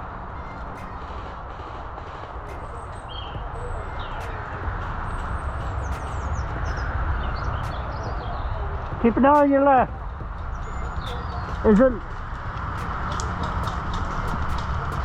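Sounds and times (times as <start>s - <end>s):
small birds chirping: 0.0s - 15.0s
wind rumble on microphone: 0.0s - 15.0s.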